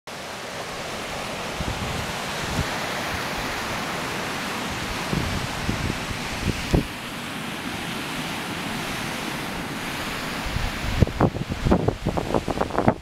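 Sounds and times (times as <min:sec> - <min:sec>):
waves breaking on a beach: 0:00.1 - 0:13.0.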